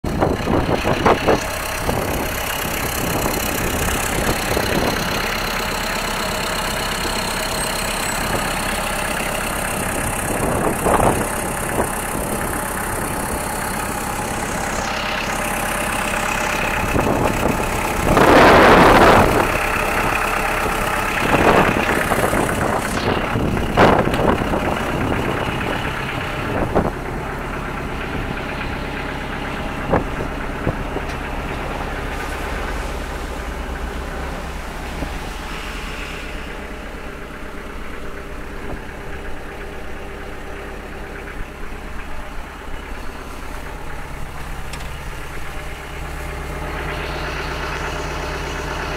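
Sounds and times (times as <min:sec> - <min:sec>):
tractor diesel engine idling: 0:00.0 - 0:48.9.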